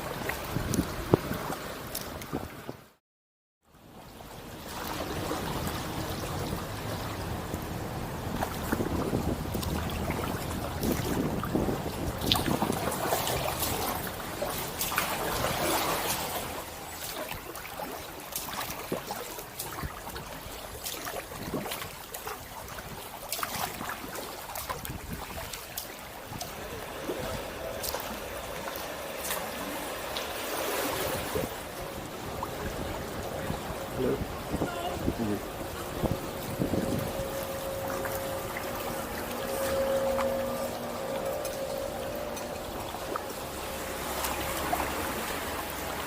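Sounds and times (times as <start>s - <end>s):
water drips from blades: 0.0s - 2.4s, 4.1s - 30.8s, 31.5s - 46.0s
paddle splashing in water: 0.0s - 2.9s, 3.8s - 46.0s.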